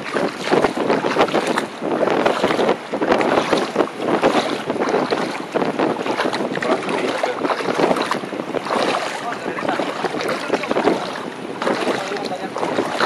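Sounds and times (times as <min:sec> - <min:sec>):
water splashing around wading legs: 0:00.0 - 0:13.0
wind on microphone: 0:00.0 - 0:13.0.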